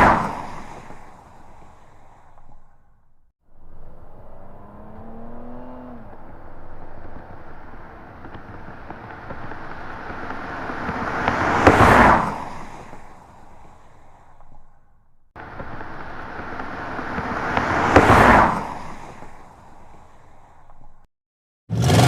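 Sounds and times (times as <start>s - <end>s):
car passing by: 0.0s - 21.1s.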